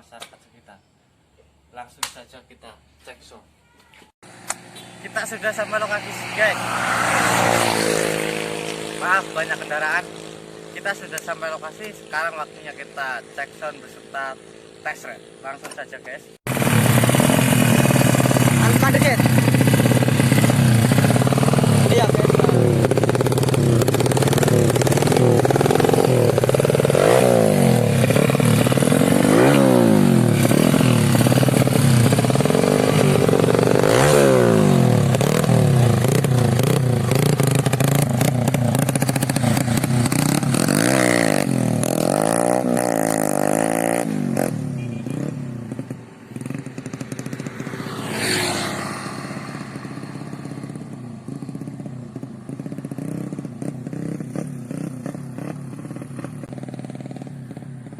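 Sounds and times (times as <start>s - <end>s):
motorcycle engine revving: 4.2s - 57.9s.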